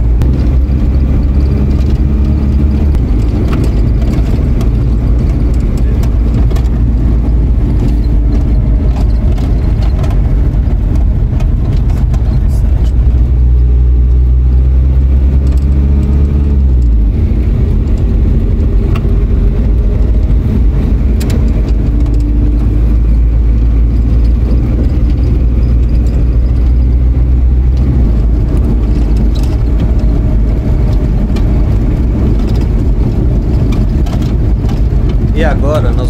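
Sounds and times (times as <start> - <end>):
road noise: 0.0 - 36.0
vehicle engine running: 0.0 - 36.0.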